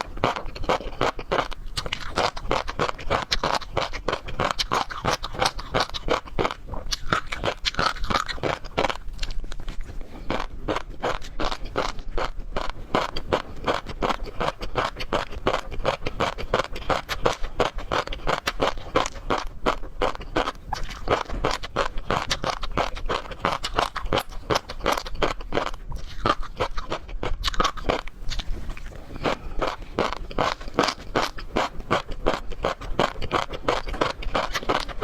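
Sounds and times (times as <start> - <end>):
chewing and crunching shellfish: 0.0 - 35.0.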